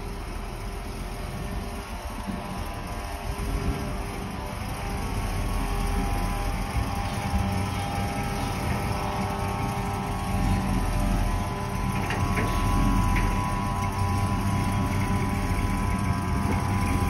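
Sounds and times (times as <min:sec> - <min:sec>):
car engine rumbling at low speed: 0:00.0 - 0:17.0.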